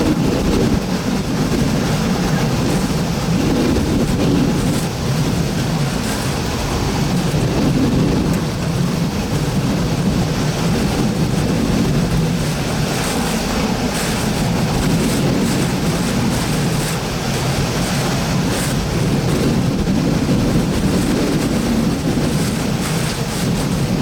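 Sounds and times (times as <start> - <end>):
loud rushing wind: 0.0 - 24.0
wind buffeting on microphone: 0.0 - 24.0.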